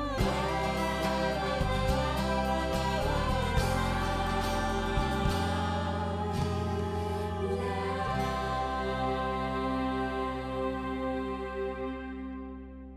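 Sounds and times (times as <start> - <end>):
theme song with held chords: 0.0 - 12.9.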